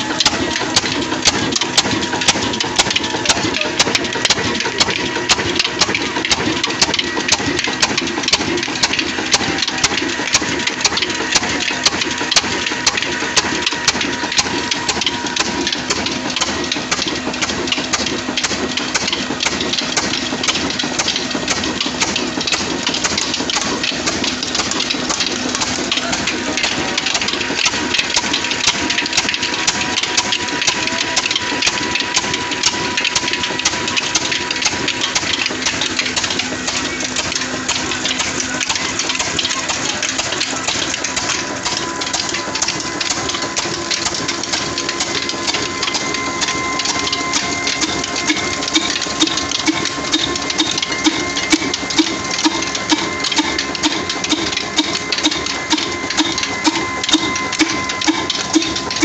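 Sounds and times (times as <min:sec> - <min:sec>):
stationary engine clattering: 0:00.0 - 0:59.0
steady whine: 0:00.0 - 0:59.0.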